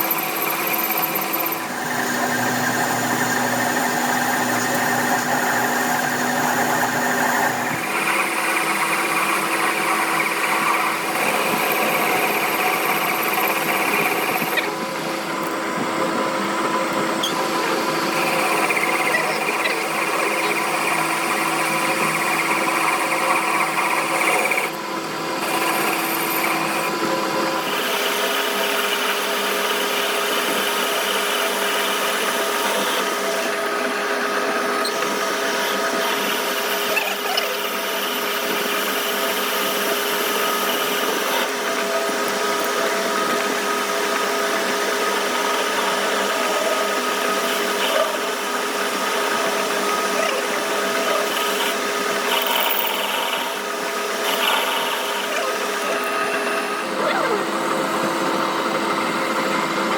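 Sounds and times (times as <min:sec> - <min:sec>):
power tool running: 0:00.0 - 0:59.9.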